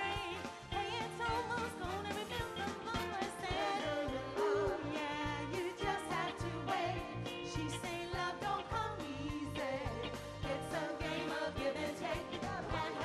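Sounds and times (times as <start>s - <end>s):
band playing: 0.0s - 13.0s
female vocal group singing: 0.0s - 13.0s.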